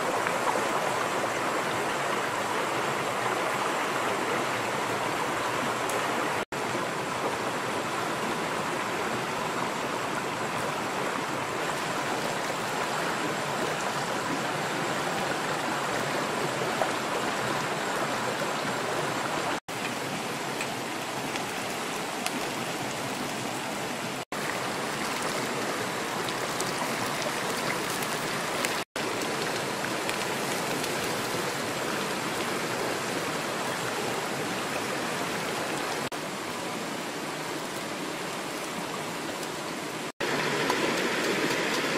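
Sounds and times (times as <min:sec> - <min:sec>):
water running over rocks: 0:00.0 - 0:41.9.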